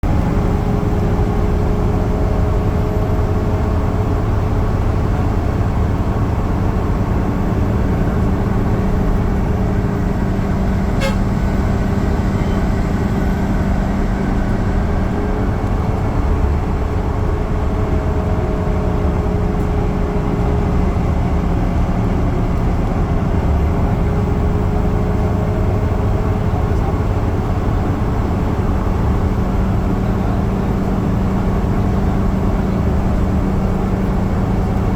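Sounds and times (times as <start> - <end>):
bus engine and road drone: 0.0 - 34.9.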